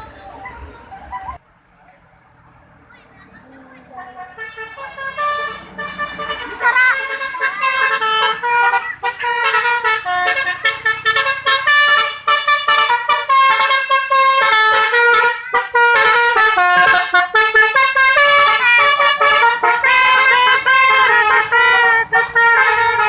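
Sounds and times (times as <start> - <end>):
bus multi-tone horn playing tune: 4.0 - 23.0.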